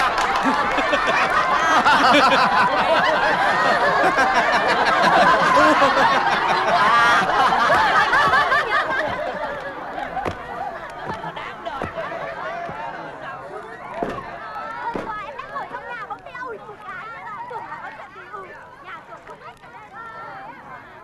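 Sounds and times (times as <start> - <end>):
crowd laughing loudly: 0.0 - 18.7.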